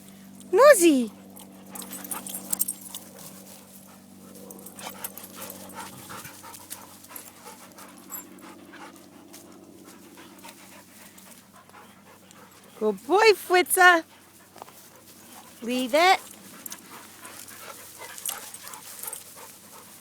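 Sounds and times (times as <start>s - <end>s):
dogs panting: 0.2s - 20.0s.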